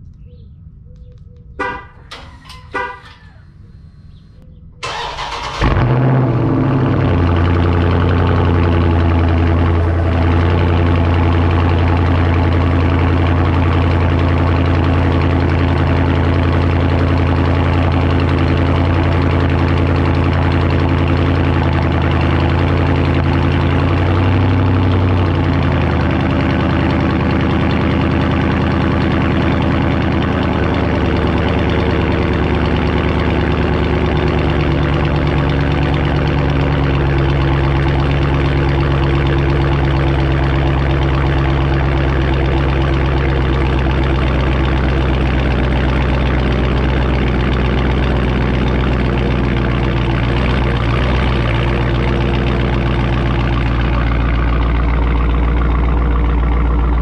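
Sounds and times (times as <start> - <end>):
car engine starting: 0.0 - 57.0
loud car engine idling: 1.6 - 57.0.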